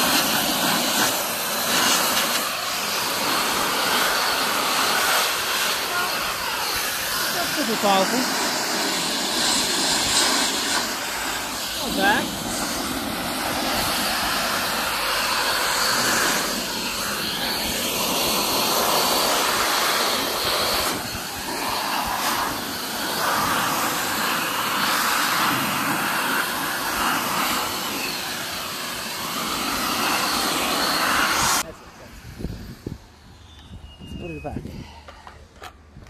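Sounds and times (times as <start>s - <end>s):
air dryer blowing: 0.0s - 36.0s.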